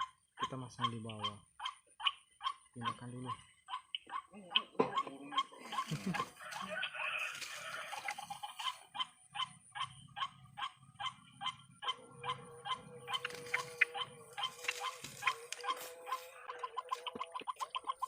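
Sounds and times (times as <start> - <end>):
waterhen calling: 0.0 - 18.0.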